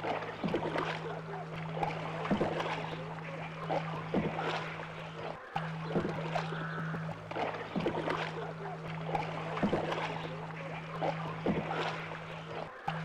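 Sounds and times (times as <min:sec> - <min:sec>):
low hum: 0:00.0 - 0:13.0
paddles splashing in water: 0:00.0 - 0:13.0.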